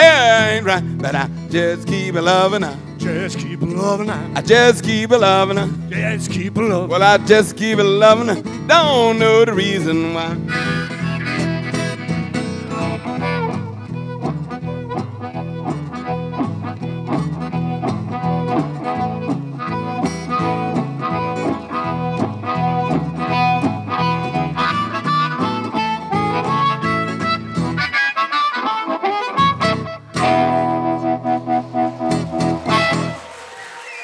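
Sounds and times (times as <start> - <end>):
acoustic guitar strumming: 0.0 - 34.0
harmonica blues solo: 0.0 - 34.0.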